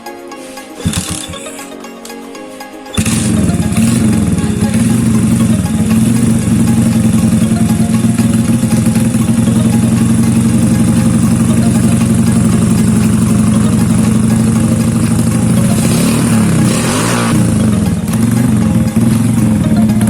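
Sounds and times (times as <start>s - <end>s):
motorcycle engine running: 0.8s - 1.5s, 3.0s - 20.0s.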